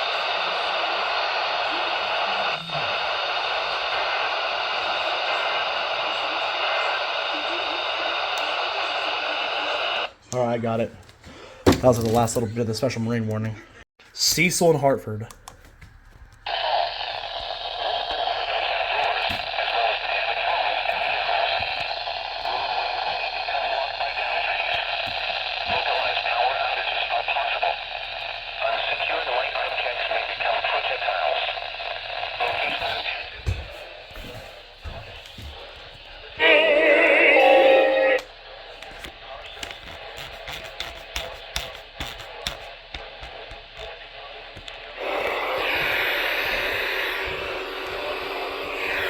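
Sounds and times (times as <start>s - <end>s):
radio static hiss: 0.0s - 10.8s, 16.5s - 49.0s.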